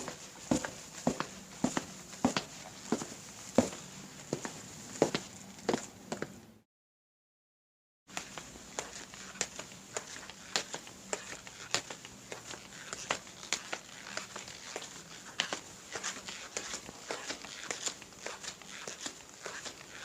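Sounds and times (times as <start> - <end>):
footsteps walking: 0.0 - 6.4, 8.1 - 20.0.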